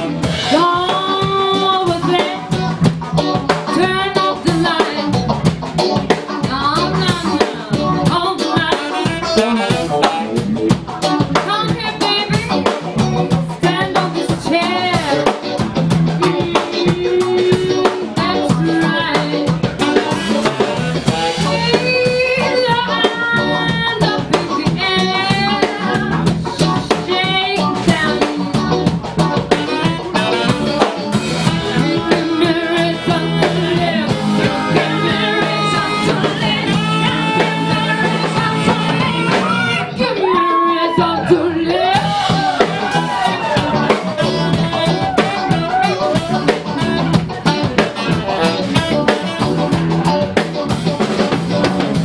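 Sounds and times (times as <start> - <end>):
woman singing lead: 0.0 - 51.7
drum kit: 0.0 - 52.0
electric guitar: 0.0 - 52.0.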